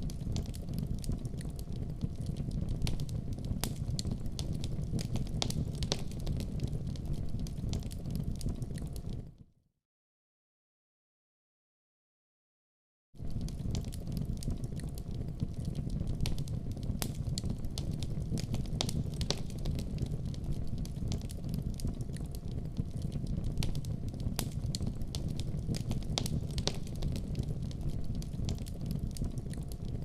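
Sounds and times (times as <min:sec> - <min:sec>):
campfire wood crackling and popping: 0:00.0 - 0:09.3, 0:13.2 - 0:30.0
fire low rumble: 0:00.0 - 0:09.4, 0:13.2 - 0:30.0.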